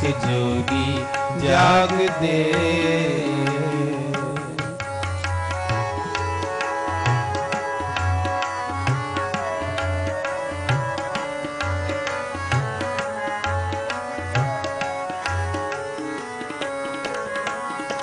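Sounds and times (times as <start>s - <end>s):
harmonium melody: 0.0s - 18.0s
tabla beat: 0.0s - 18.0s.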